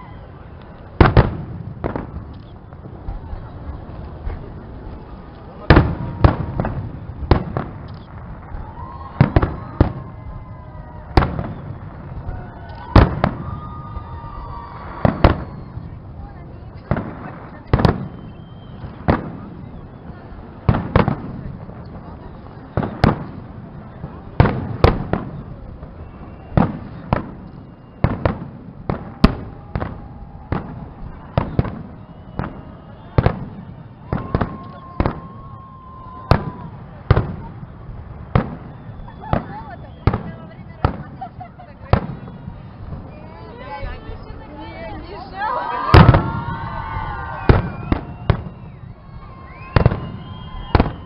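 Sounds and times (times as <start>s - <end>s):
fireworks bursting: 0.0s - 51.0s.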